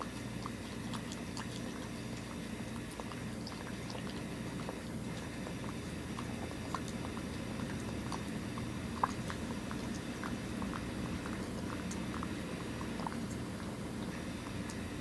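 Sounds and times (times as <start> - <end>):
cat lapping and chewing: 0.0 - 15.0
low background hum: 0.0 - 15.0.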